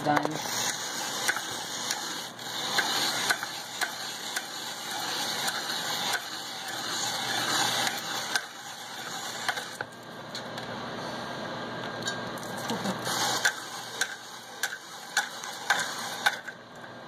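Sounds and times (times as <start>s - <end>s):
spiralizer grinding and clicking: 0.0s - 9.9s, 12.4s - 16.6s.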